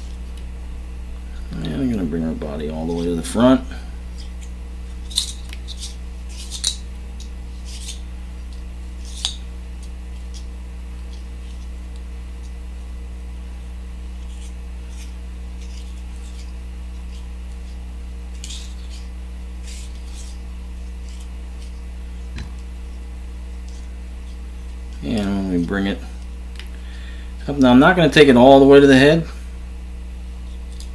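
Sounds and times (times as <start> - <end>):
low hum: 0.0 - 30.9.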